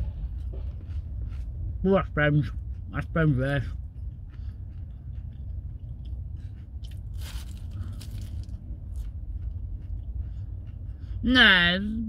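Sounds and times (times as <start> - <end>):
person chewing crispy food: 0.0 - 11.6
low rumble: 0.0 - 12.0.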